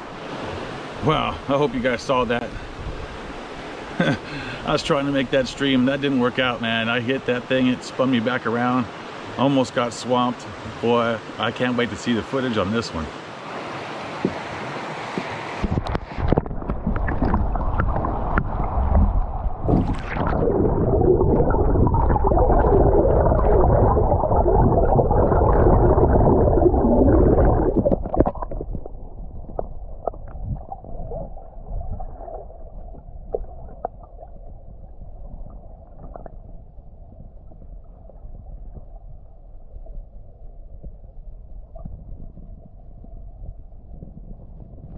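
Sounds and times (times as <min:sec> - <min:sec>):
underwater river gurgling: 0:00.0 - 0:44.9.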